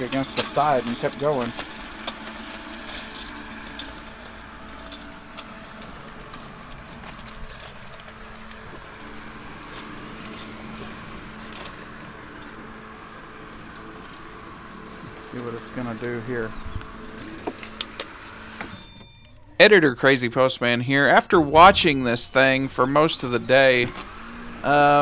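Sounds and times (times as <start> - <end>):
robotic lawn mower motors humming: 0.0 - 19.4, 20.0 - 25.0.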